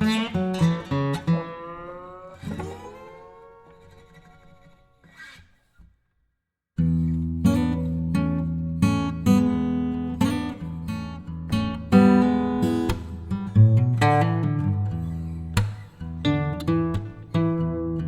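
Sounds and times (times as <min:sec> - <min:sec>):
acoustic guitar music: 0:00.0 - 0:05.7, 0:06.8 - 0:18.0.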